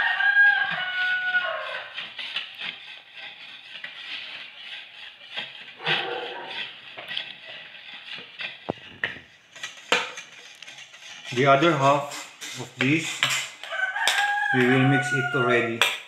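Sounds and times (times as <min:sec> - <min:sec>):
knife scraping a ceramic plate: 0:00.0 - 0:16.0.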